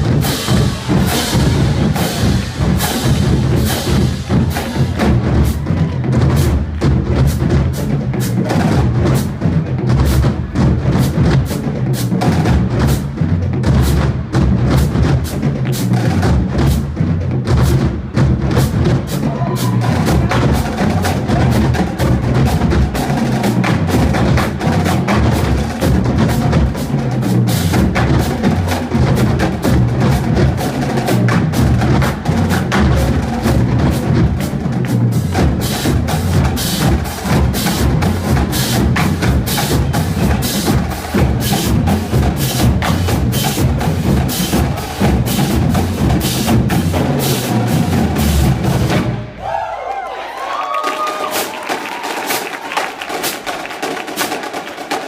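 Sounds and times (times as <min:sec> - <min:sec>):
low bass drum notes: 0:00.0 - 0:49.3
marching drumline playing: 0:00.0 - 0:49.7, 0:50.6 - 0:55.0.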